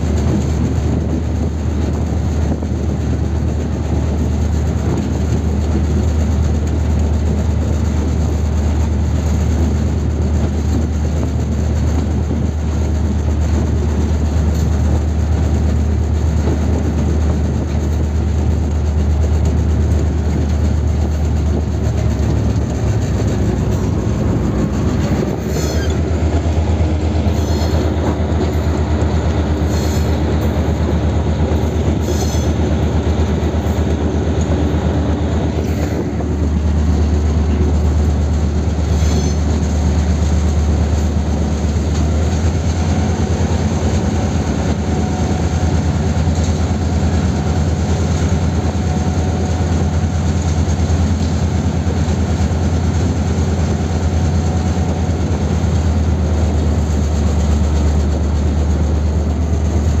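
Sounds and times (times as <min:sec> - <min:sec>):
diesel locomotive engine drone: 0:00.0 - 1:00.0
wheels rattling on rail: 0:00.0 - 1:00.0.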